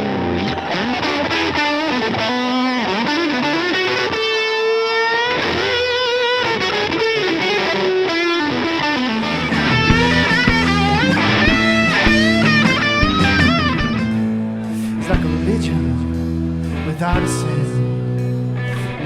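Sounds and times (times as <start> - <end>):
distorted electric guitar lead: 0.0 - 19.0
live rock band playing: 0.0 - 19.0.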